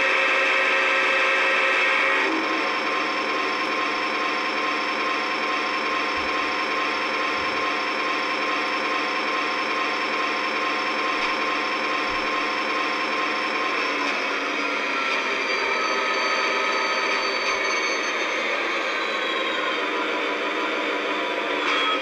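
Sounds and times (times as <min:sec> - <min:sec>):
model train diesel engine sound: 0:00.0 - 0:22.0
thin steady whine: 0:00.0 - 0:22.0.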